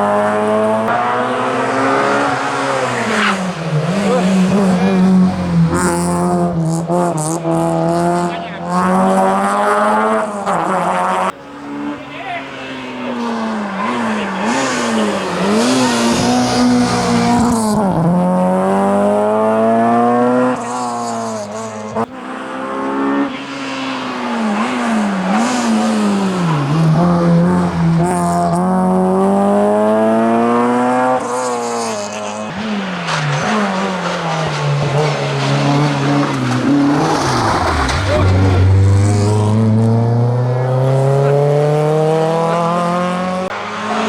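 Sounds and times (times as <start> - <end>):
rally car engine revving: 0.0 - 44.0
second rally car engine: 0.0 - 44.0.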